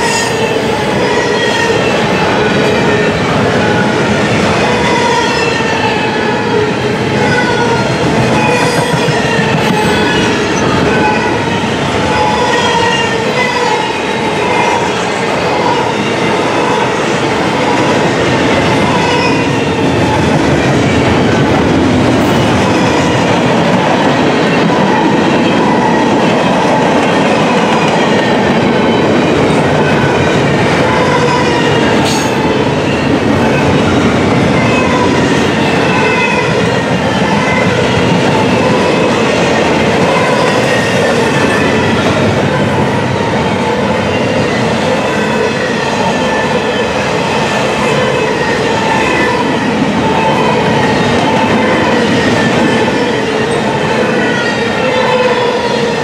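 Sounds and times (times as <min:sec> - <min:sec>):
rumble of train wheels on rail: 0:00.0 - 0:56.0.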